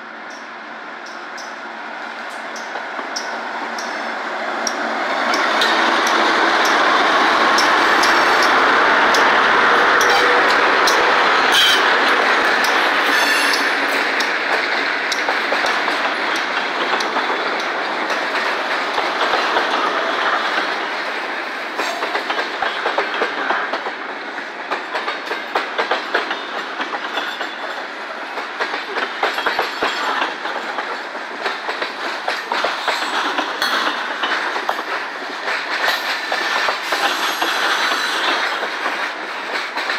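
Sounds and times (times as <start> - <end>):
diesel locomotive passing: 0.0 - 39.9
train wheels clicking on rail joints: 0.2 - 39.9.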